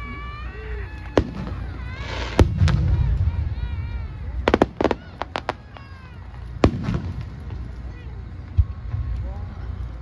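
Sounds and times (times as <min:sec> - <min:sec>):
crackling fireworks shower: 0:00.0 - 0:10.0
spectators' voices: 0:00.0 - 0:10.0
fireworks bangs: 0:00.8 - 0:10.0
low rumble: 0:01.2 - 0:10.0.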